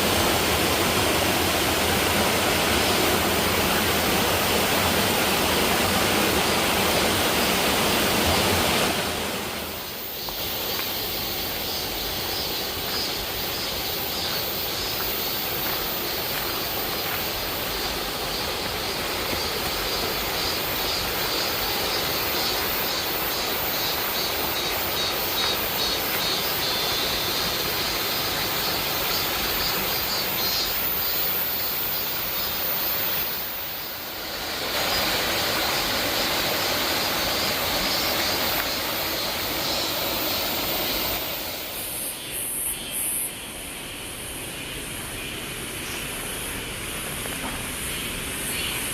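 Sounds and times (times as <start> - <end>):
waterfall rushing: 0.0 - 42.2.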